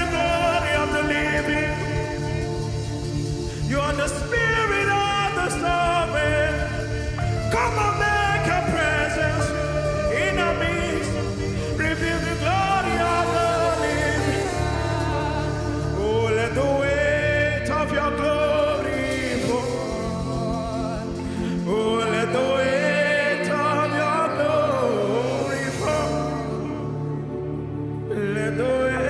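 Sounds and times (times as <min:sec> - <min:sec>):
drums: 0:00.0 - 0:26.9
keyboard: 0:00.0 - 0:29.0
person singing long notes: 0:00.0 - 0:29.0.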